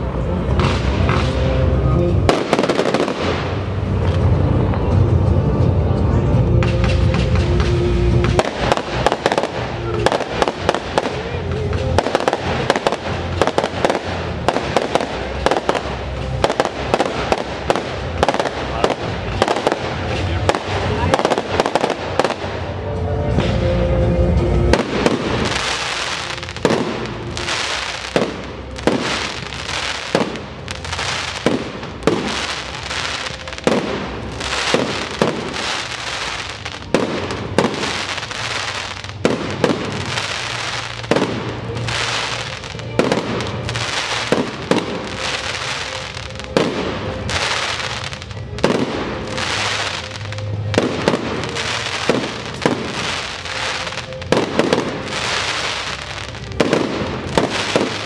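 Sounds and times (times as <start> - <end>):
fireworks bursting: 0.0 - 4.8, 6.6 - 23.8, 24.6 - 58.0.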